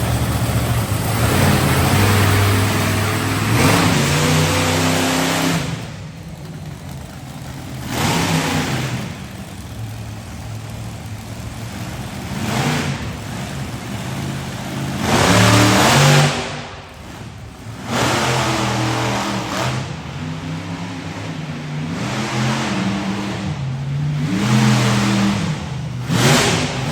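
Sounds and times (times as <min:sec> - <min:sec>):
monster truck engine revving: 0:00.0 - 0:26.9.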